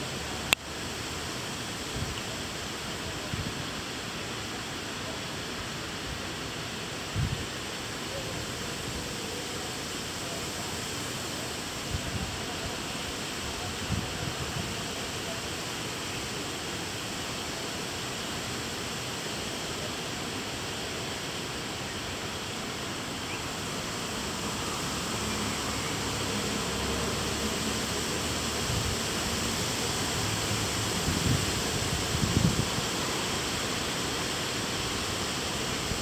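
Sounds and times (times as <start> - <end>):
rain hiss: 0.0 - 36.0.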